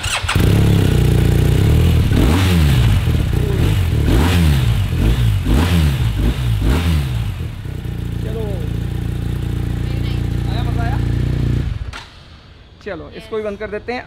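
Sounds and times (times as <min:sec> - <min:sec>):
motorcycle engine starting and revving: 0:00.0 - 0:12.4.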